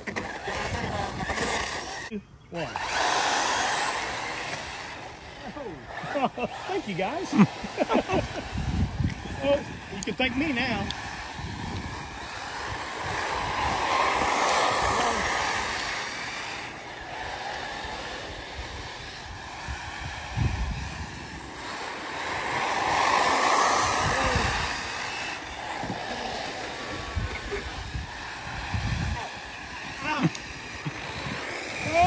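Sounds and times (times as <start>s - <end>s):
electric rc cars passing: 0.0s - 32.0s.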